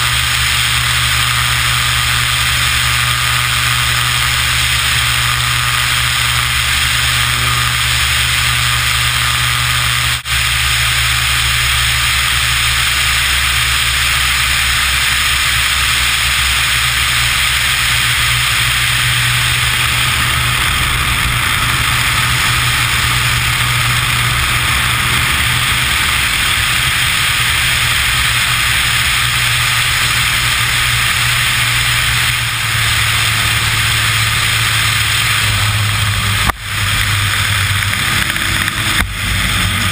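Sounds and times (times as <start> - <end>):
propeller plane engine in flight: 0.0 - 39.9
wind rush: 0.0 - 39.9.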